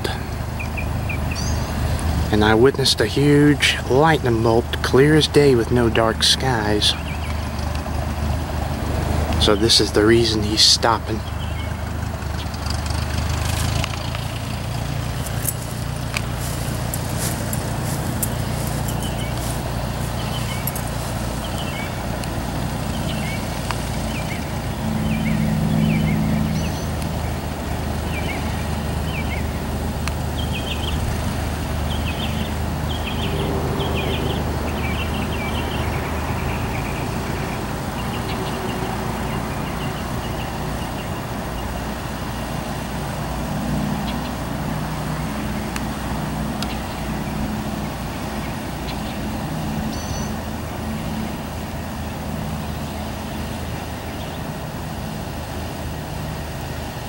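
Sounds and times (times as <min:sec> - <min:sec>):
propeller plane engine idling: 0:00.0 - 0:57.0.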